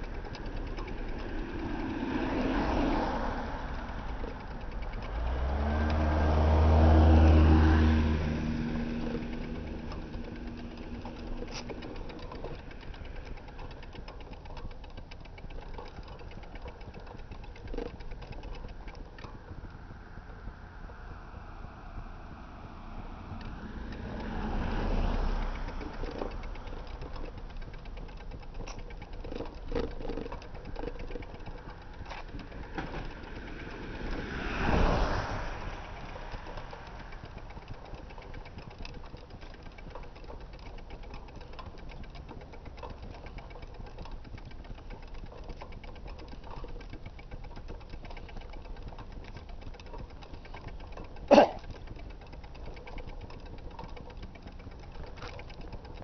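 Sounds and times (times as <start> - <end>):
bicycle freewheel ticking: 0.0 - 56.0
vehicle passing: 0.0 - 56.0.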